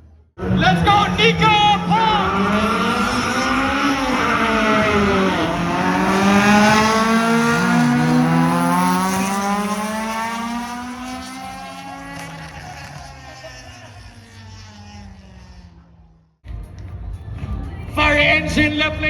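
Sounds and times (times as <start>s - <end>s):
race car engine accelerating: 0.4s - 16.4s.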